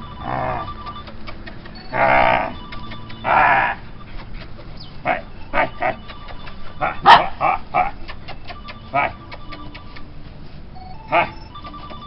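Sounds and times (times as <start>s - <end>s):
puppy crying and yipping: 0.1s - 10.1s.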